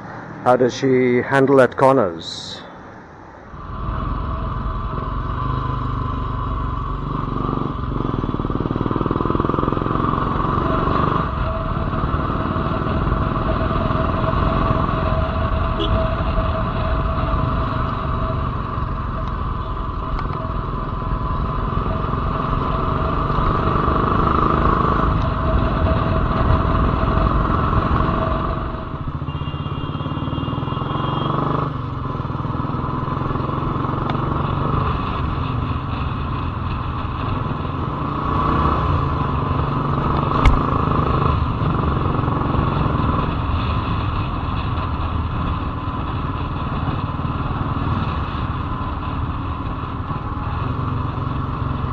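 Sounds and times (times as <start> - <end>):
motorcycle engine running: 3.6 - 51.9.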